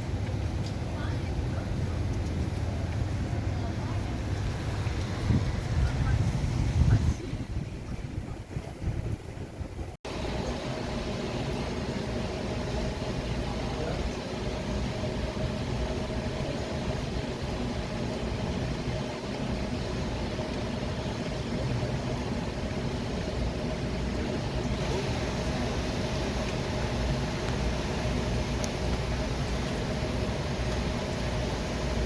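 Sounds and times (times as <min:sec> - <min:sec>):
city traffic rumble: 0:00.0 - 0:32.0
faint steady hum: 0:00.0 - 0:32.0.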